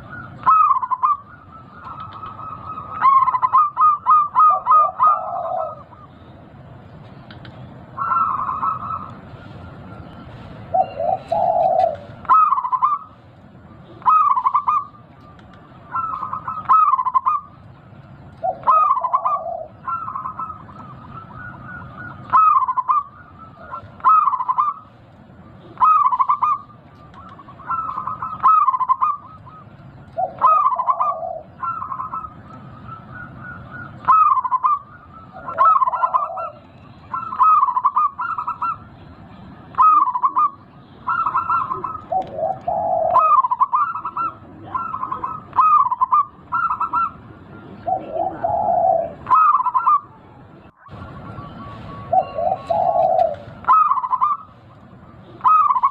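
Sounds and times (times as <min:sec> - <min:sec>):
dove cooing: 0:00.0 - 0:06.4, 0:07.9 - 0:17.7, 0:18.3 - 0:38.9, 0:39.7 - 0:50.2, 0:50.8 - 0:55.9.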